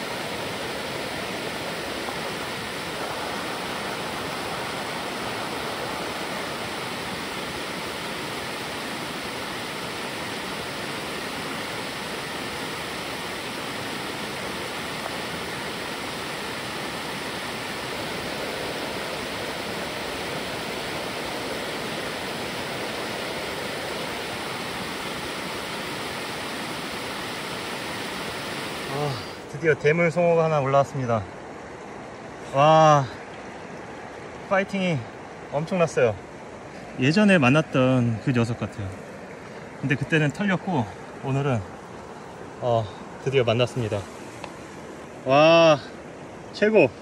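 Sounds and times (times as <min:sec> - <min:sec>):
stream rushing over riffles: 0:00.0 - 0:47.0.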